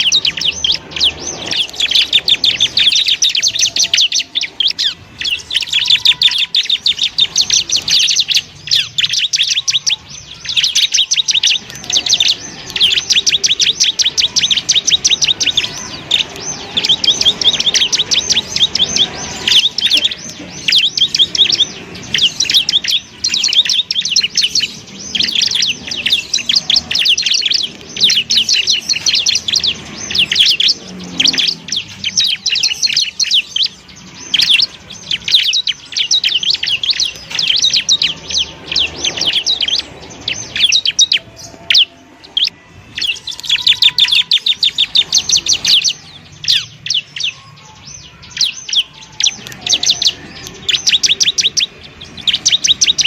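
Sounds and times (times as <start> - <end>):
bird singing rapid high chirps: 0.0 - 53.0.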